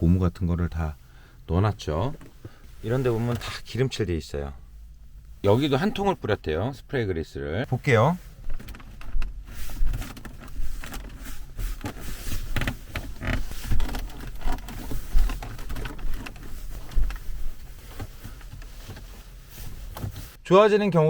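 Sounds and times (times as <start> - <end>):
car trim creaking and squeaking: 1.7 - 7.0, 7.8 - 20.4.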